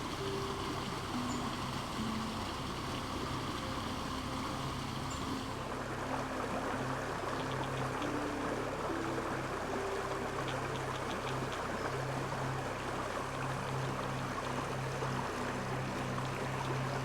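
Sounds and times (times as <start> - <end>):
creek water flowing: 0.0 - 17.0
slow background music: 0.0 - 17.0.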